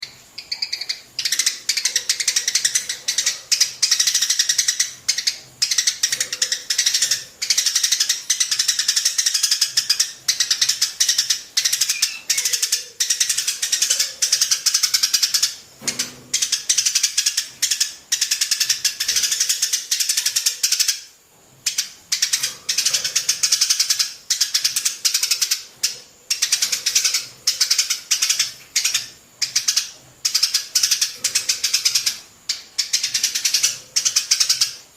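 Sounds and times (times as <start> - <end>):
small birds chattering: 0.0 - 34.9.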